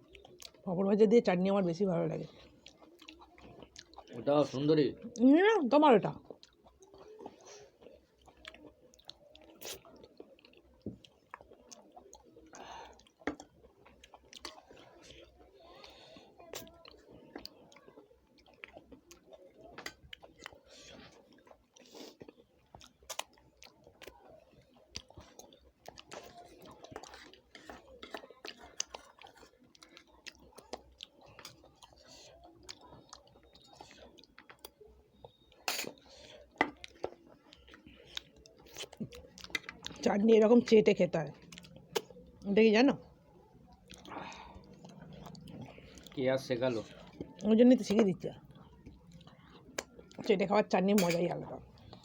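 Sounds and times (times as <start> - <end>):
people chewing: 0.0 - 0.8, 1.5 - 52.0.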